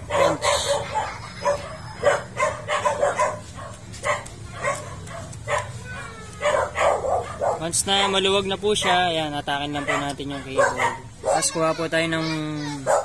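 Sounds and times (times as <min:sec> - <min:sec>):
dog barking: 0:00.0 - 0:11.6.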